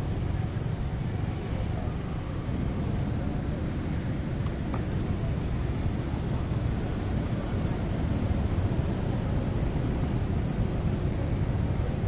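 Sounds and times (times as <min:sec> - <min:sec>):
motorbike and car traffic: 0:00.0 - 0:12.0.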